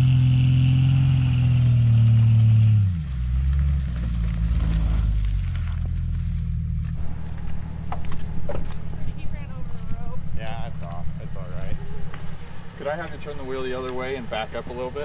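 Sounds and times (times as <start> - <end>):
vehicle engine revving under load: 0.0 - 15.0.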